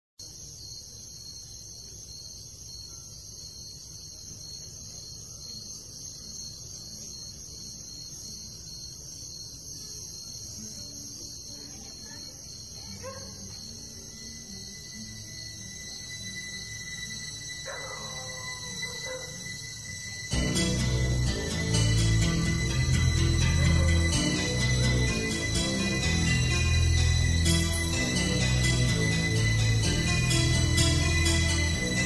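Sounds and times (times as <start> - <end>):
crickets chirring: 0.2 - 32.0
music: 4.4 - 32.0.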